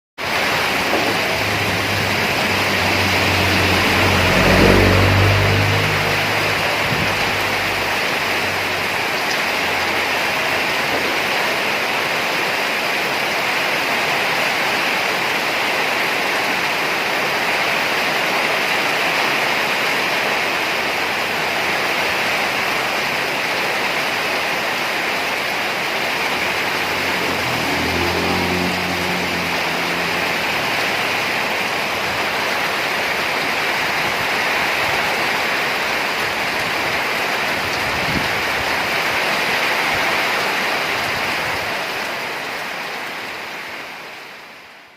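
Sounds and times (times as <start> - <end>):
vehicle engine: 0.2 - 43.9
heavy rain pouring: 0.2 - 44.9.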